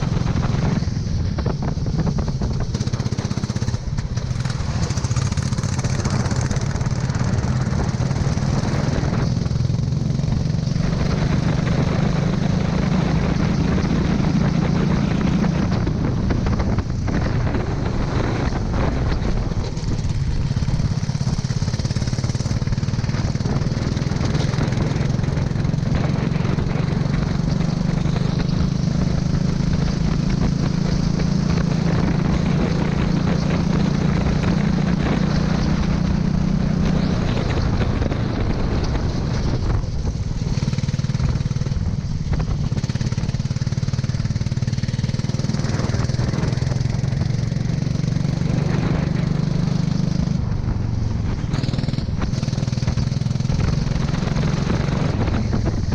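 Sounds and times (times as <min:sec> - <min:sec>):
kart engine running: 0:00.0 - 0:55.9.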